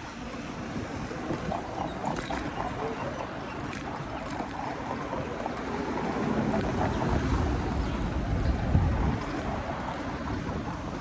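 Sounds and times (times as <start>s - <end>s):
city street background noise: 0.0s - 11.0s.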